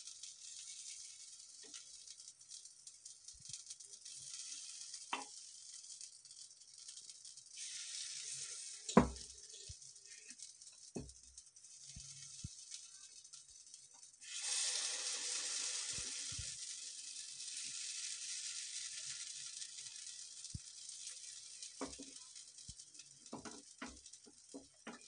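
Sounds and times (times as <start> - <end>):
batter sizzling in a hot pan: 0.0 - 25.0.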